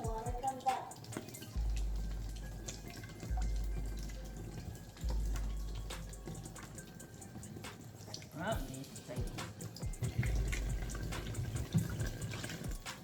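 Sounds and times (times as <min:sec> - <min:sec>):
water splashing and dripping: 0:00.0 - 0:13.0.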